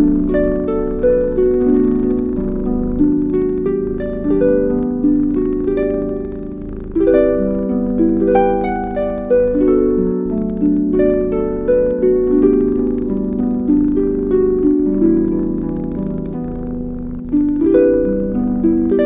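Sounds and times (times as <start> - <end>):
soft plucked arpeggio music: 0.0 - 19.0.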